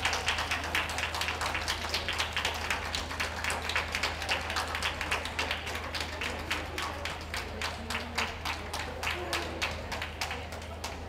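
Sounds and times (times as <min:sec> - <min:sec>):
audience clapping: 0:00.0 - 0:11.0.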